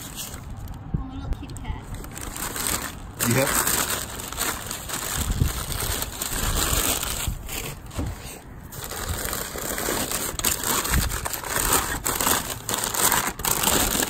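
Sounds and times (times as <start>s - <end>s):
packing paper crinkling: 0.0s - 0.8s, 1.4s - 14.0s.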